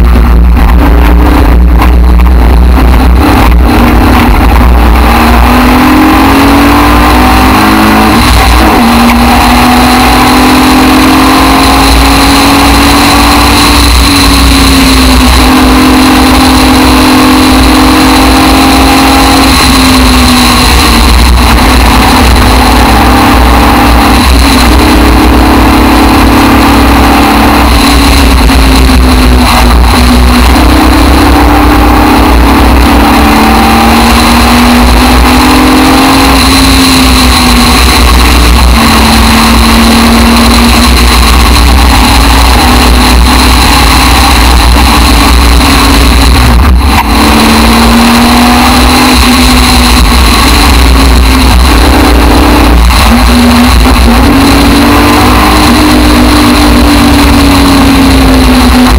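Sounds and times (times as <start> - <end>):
race car engine accelerating: 0.0 - 58.9
wind rumble: 0.0 - 58.9.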